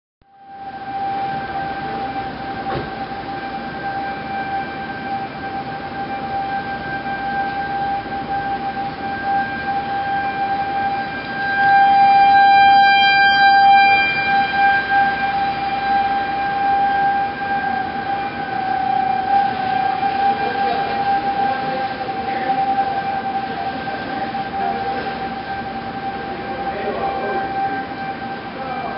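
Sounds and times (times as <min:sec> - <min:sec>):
warning siren steady tone: 0:00.2 - 0:28.9.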